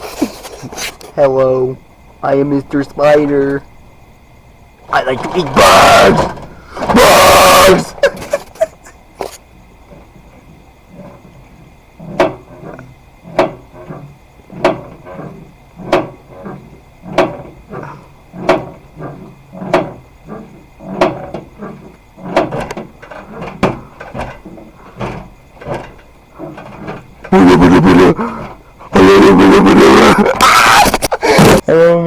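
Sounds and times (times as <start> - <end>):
knocking: 4.8 - 31.6.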